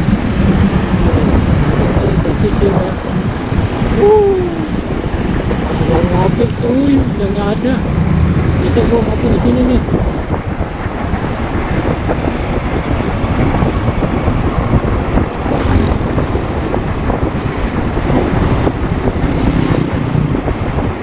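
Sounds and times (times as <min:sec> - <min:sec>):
motorcycle engine running: 0:00.0 - 0:21.0
vehicles passing in traffic: 0:00.0 - 0:21.0
wind rushing over microphone: 0:00.0 - 0:21.0.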